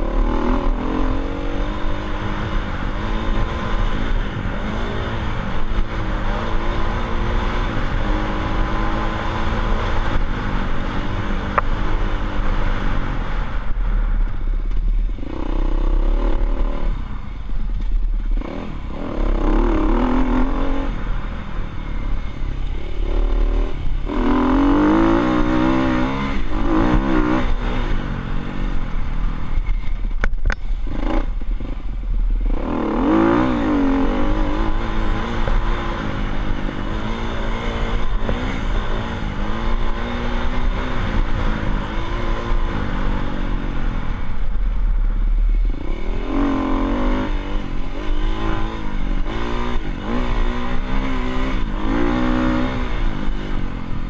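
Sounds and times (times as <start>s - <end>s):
dirt bike engine revving: 0.0s - 14.1s, 15.1s - 29.6s, 30.8s - 31.8s, 32.4s - 54.0s.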